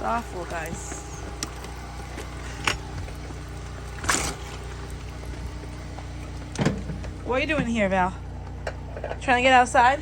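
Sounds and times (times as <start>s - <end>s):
generator engine humming: 0.0s - 10.0s.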